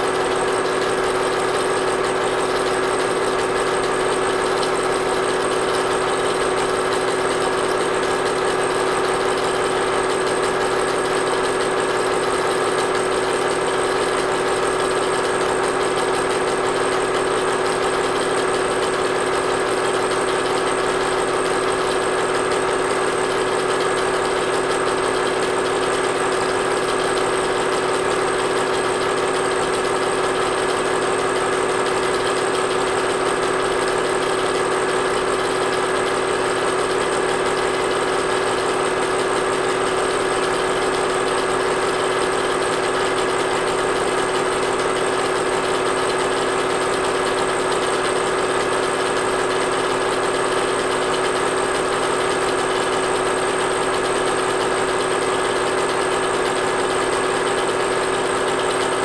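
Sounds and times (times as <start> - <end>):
film projector whirring: 0.0 - 59.0.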